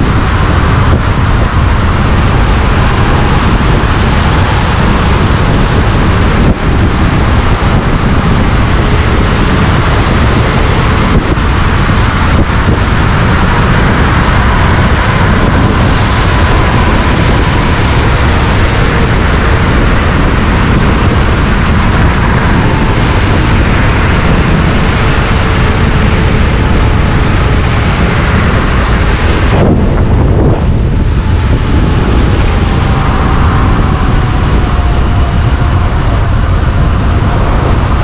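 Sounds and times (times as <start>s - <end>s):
wind rush on microphone: 0.0s - 38.0s.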